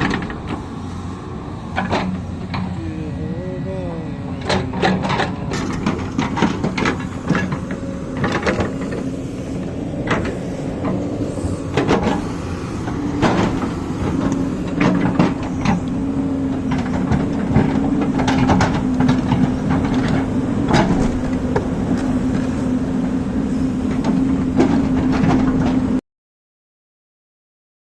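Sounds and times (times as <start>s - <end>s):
machine humming: 0.0s - 25.1s.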